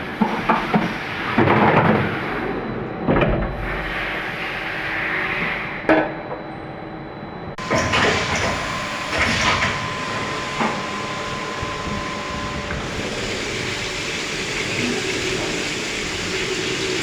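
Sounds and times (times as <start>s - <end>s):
machine whine: 0.0s - 17.0s
machining centre mechanical noise: 0.0s - 17.0s.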